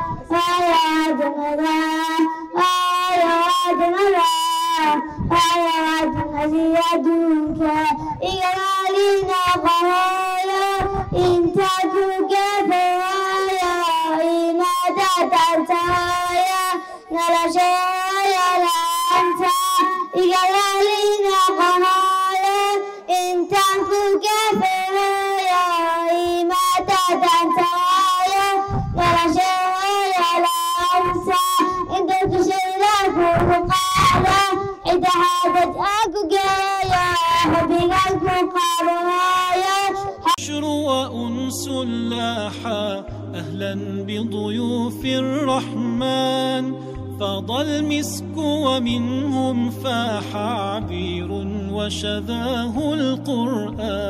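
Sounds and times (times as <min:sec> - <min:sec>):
boy singing into a microphone: 0:00.0 - 0:54.0.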